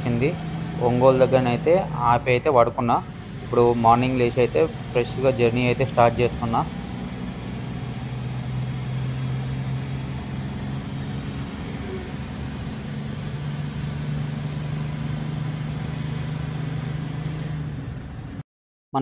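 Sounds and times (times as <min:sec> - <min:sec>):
lorry diesel engine running: 0:00.0 - 0:18.4.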